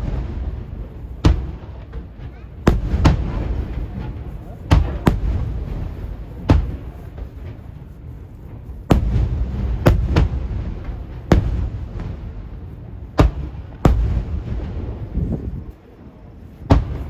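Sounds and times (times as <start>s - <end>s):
firework shells bursting: 0.0s - 15.2s.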